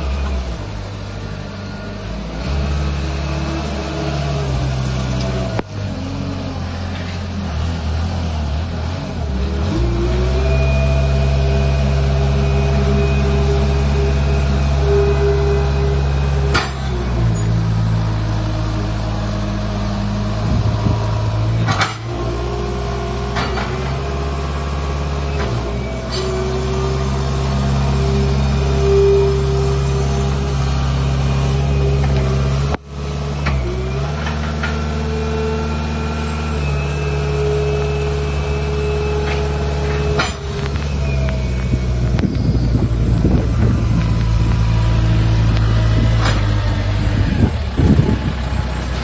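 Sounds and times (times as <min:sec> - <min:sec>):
diesel engine revving: 0:00.0 - 0:49.0.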